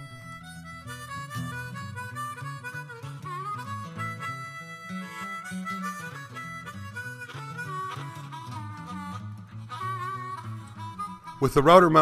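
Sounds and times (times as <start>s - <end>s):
harmonica tune with bass line: 0.0s - 12.0s.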